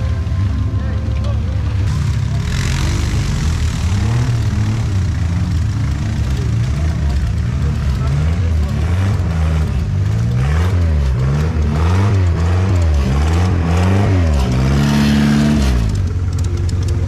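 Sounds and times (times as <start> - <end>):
dune buggy engine revving: 0.0 - 17.0.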